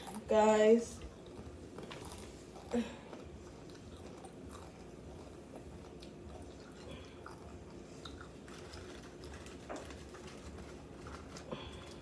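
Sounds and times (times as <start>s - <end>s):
low room hum: 0.0s - 12.0s
person chewing: 1.0s - 12.0s.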